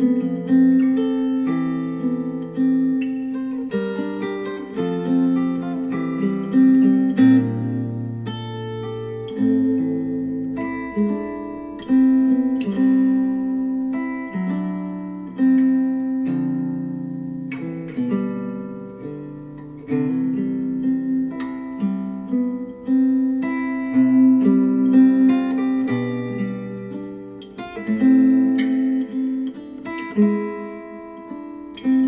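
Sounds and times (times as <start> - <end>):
acoustic guitar music: 0.0 - 32.0.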